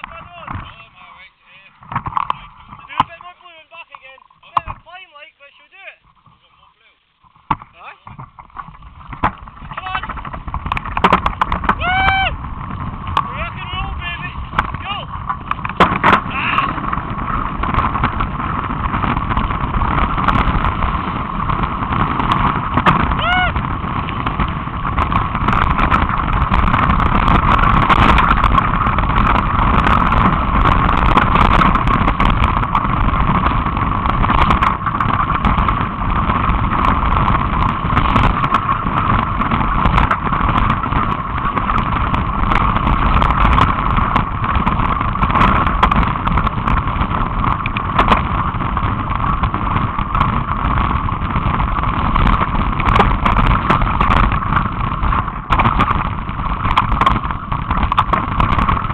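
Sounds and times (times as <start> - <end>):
steady rushing noise: 0.0 - 58.9
bike clicks and rattles: 1.7 - 4.9, 6.0 - 6.6, 7.2 - 58.9.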